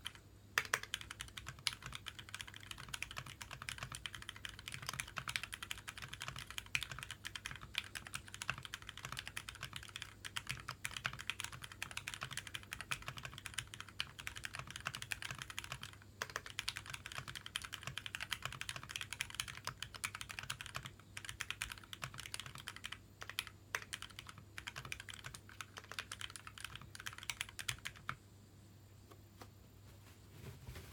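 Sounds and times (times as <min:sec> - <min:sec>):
fast typing on mechanical keyboard: 0:00.0 - 0:28.2.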